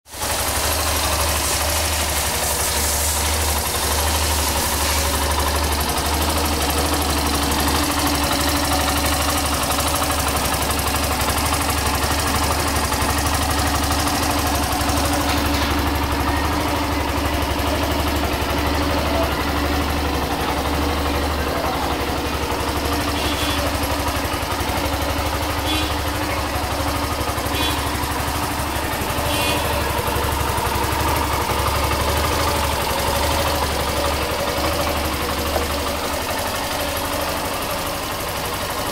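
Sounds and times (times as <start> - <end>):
motorcycle engine idling: 0.1 - 38.9.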